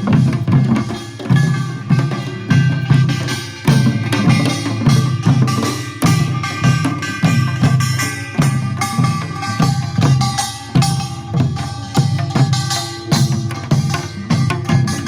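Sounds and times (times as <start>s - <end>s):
drums beating steady rhythm: 0.0s - 15.0s.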